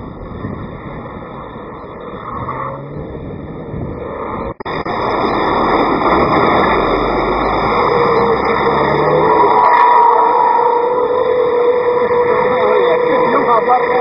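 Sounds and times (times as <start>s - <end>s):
racing truck engine rush: 0.0s - 14.0s.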